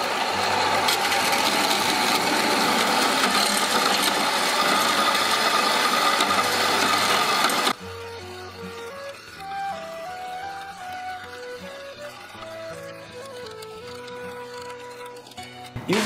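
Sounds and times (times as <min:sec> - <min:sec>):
bandsaw cutting steel: 0:00.0 - 0:16.0
soft music: 0:00.0 - 0:16.0.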